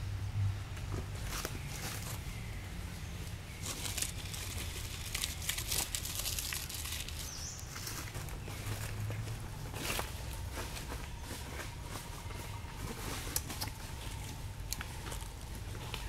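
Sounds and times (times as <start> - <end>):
low steady rumble: 0.0 - 16.0
rustling and crackling: 0.8 - 2.3, 3.3 - 16.0.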